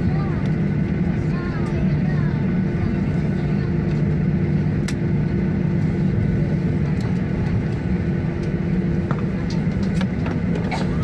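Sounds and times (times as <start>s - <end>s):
aircraft engines and wheels rumbling: 0.0s - 11.0s.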